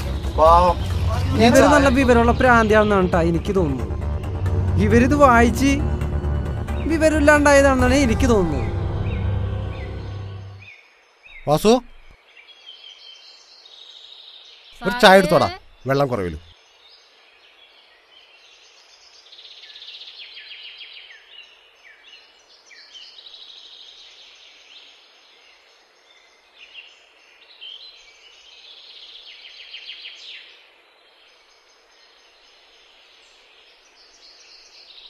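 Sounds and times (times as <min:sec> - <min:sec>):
songbirds chirping and trilling: 0:00.0 - 0:35.0.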